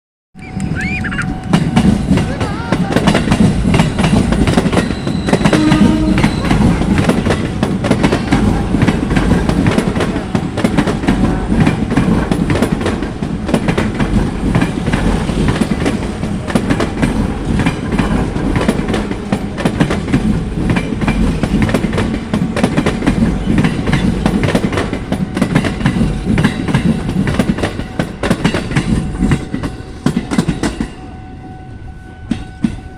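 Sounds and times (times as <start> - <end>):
train wheels clattering over rails: 0.6 - 31.0.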